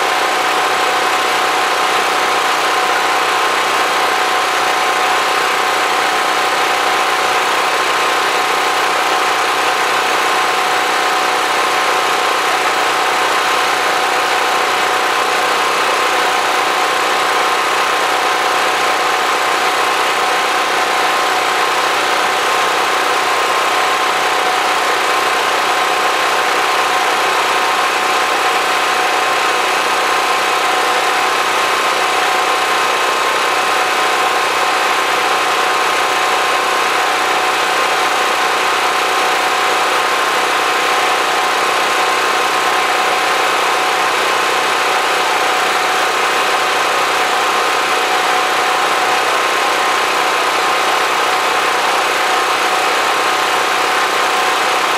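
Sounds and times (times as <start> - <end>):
generator engine droning: 0.0 - 54.9.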